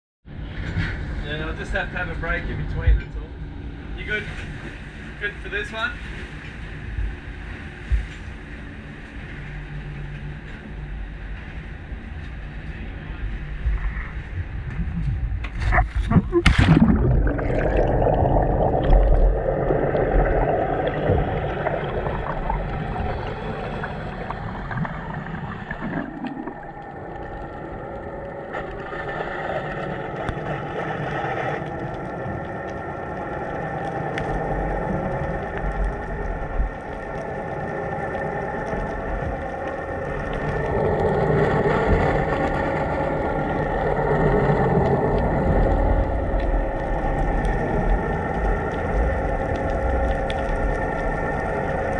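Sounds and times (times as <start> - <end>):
boat engine hum underwater: 0.2 - 51.9.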